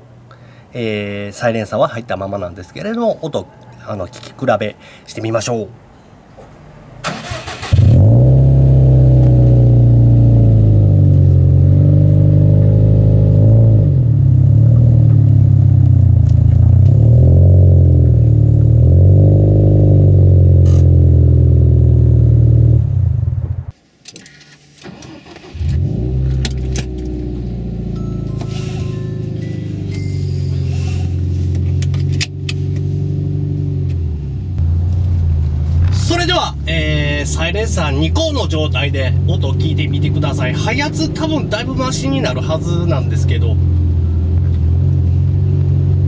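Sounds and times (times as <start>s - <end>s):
car engine starting and idling: 6.4s - 23.7s, 24.3s - 46.0s.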